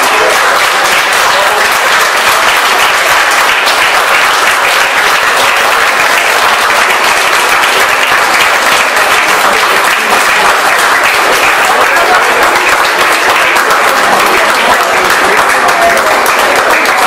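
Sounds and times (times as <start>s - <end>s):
large crowd applauding: 0.0s - 17.0s.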